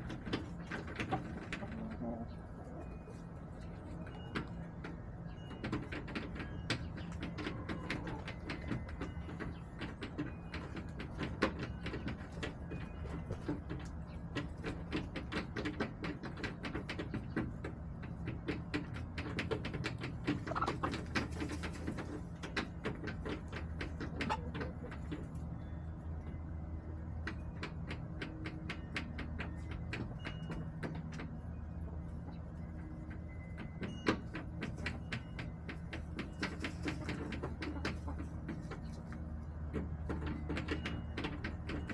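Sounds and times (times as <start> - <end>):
hens tapping and clicking: 0.0 - 41.9.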